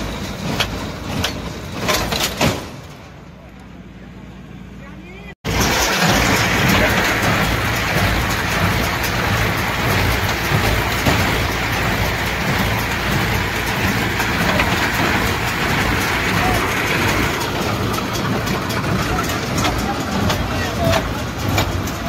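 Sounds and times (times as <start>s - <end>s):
baler clattering and rustling: 0.0s - 3.2s, 5.6s - 22.0s
low engine rumble: 0.0s - 22.0s.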